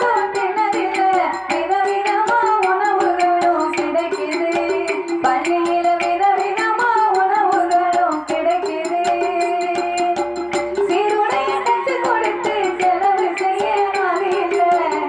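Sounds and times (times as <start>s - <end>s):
percussion strikes: 0.0s - 15.0s
woman singing into a microphone: 0.0s - 15.0s.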